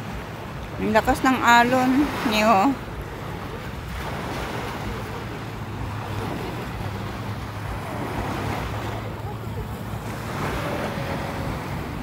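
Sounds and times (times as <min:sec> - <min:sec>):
sea waves washing onto beach: 0:00.0 - 0:12.0
wind rumbling on microphone: 0:00.0 - 0:12.0.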